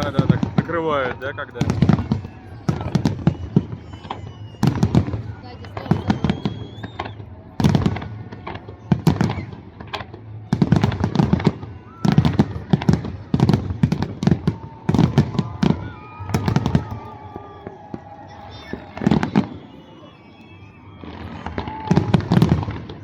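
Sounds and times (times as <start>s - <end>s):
crackling firework volleys: 0.0s - 23.0s.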